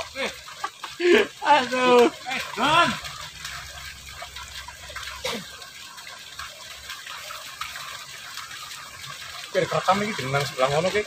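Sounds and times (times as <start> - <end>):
water running in a ditch: 0.0 - 11.0.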